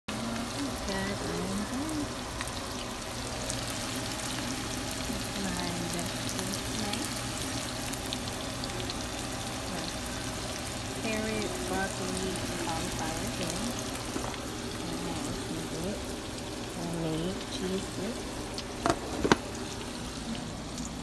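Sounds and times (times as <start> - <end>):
vegetables sizzling in a frying pan: 0.1 - 21.0.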